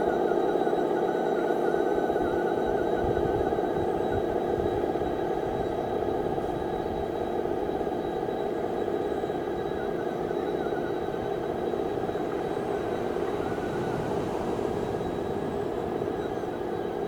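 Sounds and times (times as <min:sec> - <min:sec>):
faint wavering whine: 0:00.0 - 0:17.0.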